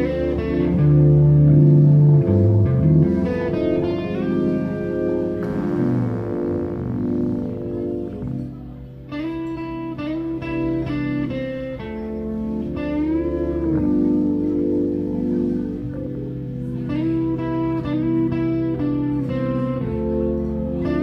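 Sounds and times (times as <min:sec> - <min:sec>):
bass guitar line: 0:00.0 - 0:21.0
electric guitar sustained notes: 0:00.0 - 0:21.0.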